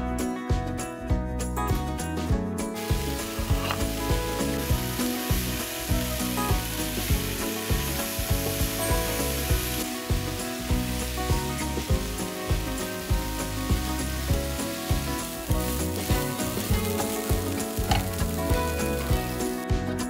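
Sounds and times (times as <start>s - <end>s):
background music with steady beat: 0.0s - 20.0s
food sizzling in oil: 2.8s - 19.6s.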